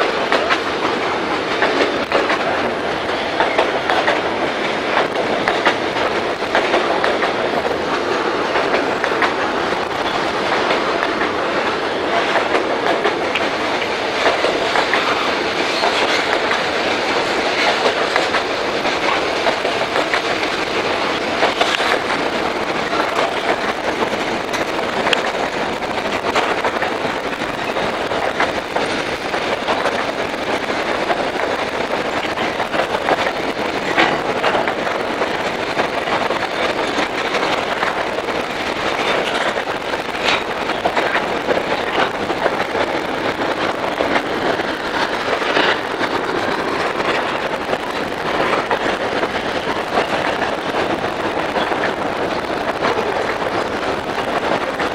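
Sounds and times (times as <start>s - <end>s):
freight train wheels rumbling: 0.0s - 54.9s
wheel clicks on rail: 0.0s - 54.9s.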